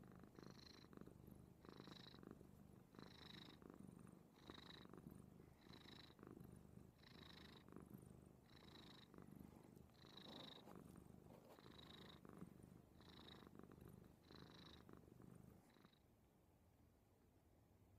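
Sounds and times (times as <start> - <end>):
cat purring: 0.0 - 16.1.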